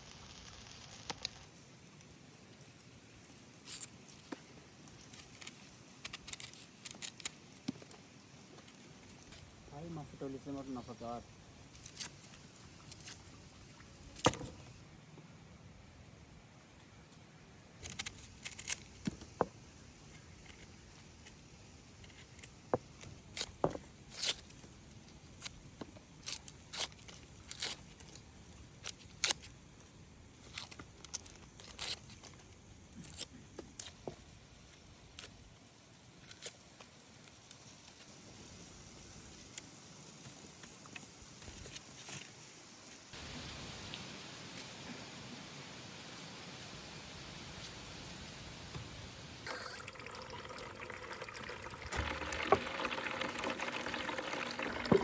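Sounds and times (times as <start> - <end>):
faint steady hiss: 0.0 - 55.0.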